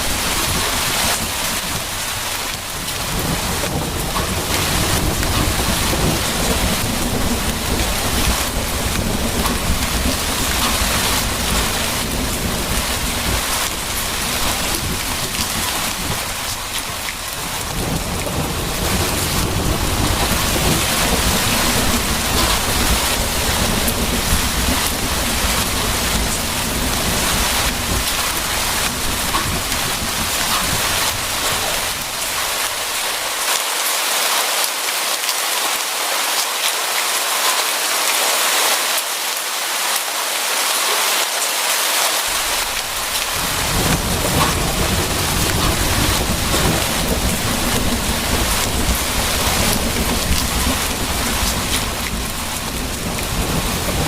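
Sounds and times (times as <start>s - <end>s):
thunder rumbling: 0.0s - 33.2s, 42.3s - 54.0s
heavy rain: 0.0s - 54.0s.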